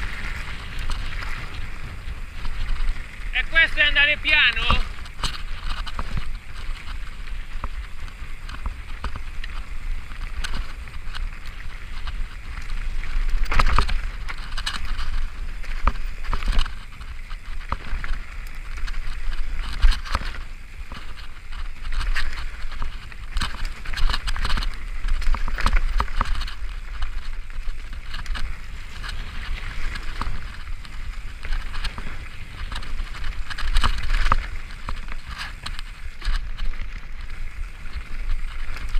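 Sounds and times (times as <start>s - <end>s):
bike knocking and rattling: 0.0s - 38.9s
bike tyres hissing on dirt: 0.0s - 38.9s.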